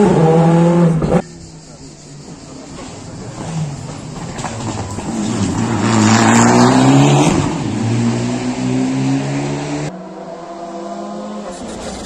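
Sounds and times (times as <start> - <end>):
rally car engine at full throttle: 0.0 - 1.8, 2.8 - 12.0.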